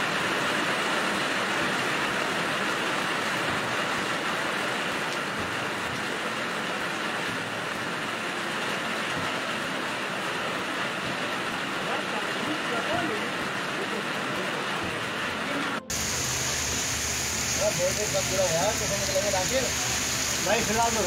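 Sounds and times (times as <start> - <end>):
heavy rain on pavement: 0.0 - 21.0.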